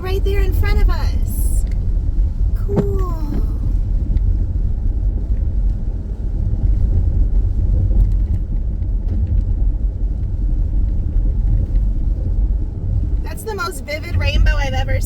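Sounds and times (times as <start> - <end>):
minivan road and engine noise: 0.0 - 15.0.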